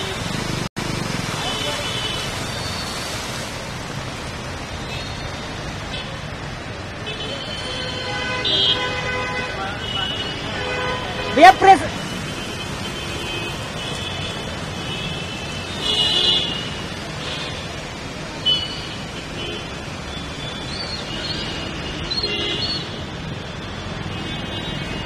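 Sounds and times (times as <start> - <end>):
tyres splashing through floodwater: 0.0 - 25.0.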